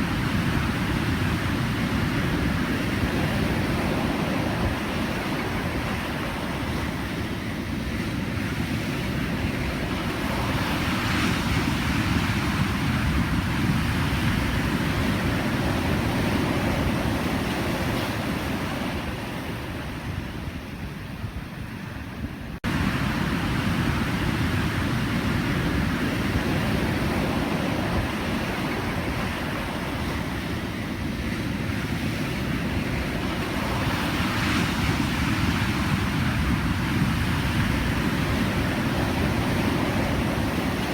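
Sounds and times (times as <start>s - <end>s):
ocean surf washing: 0.0s - 40.9s.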